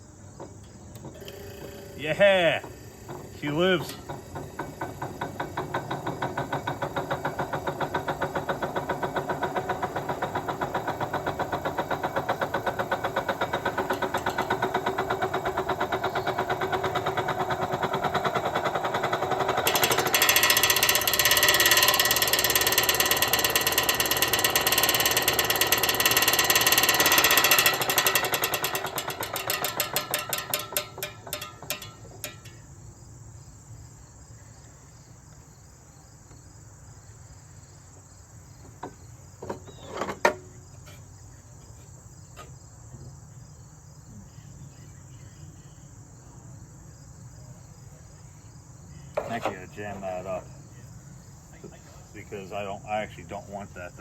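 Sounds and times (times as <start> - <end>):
window air conditioner rattling: 0.0 - 54.0.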